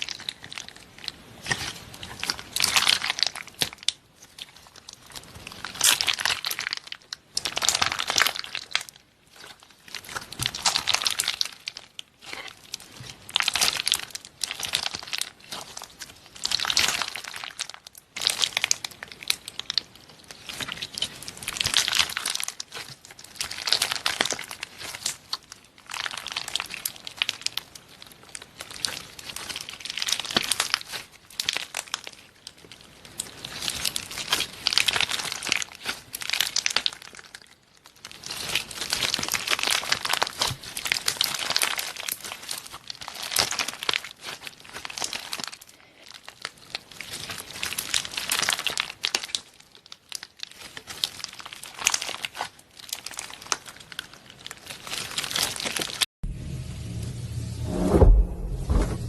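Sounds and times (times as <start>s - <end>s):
crinkling and crunching: 0.0s - 56.1s.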